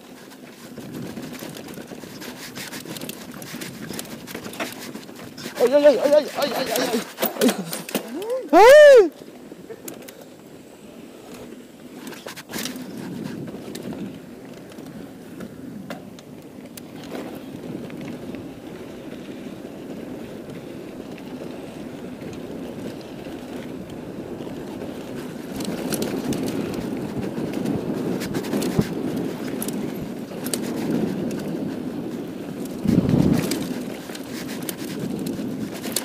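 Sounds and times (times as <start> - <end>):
bike clicks and rattles: 0.0 - 36.0
tyres rumbling on dirt: 0.1 - 36.0.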